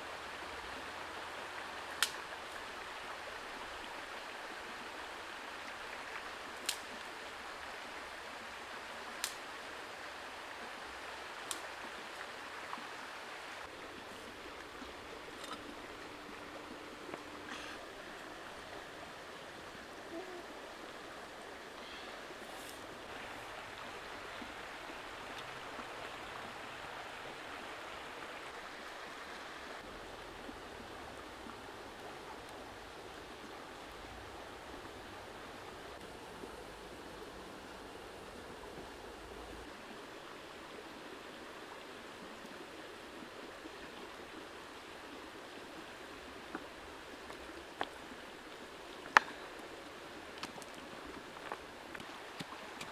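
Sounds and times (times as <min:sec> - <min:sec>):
stream rushing over stones: 0:00.0 - 0:37.1, 0:37.7 - 0:52.9.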